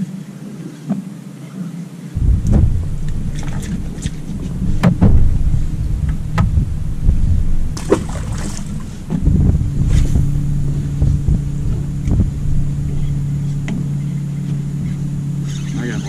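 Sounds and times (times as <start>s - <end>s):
boat engine droning: 2.1s - 16.0s
wind buffeting microphone: 2.2s - 16.0s.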